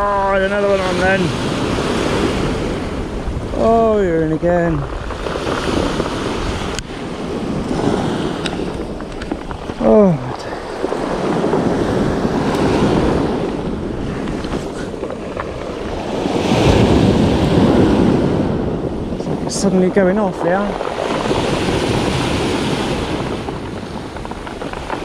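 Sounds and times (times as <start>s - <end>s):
waves breaking on cobble beach: 0.0s - 25.0s
wind on microphone: 0.0s - 25.0s.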